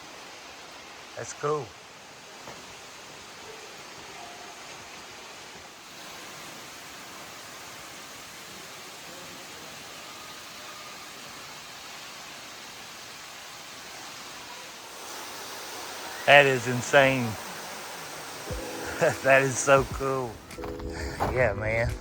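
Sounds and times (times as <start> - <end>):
waterfall rushing: 0.0 - 21.5.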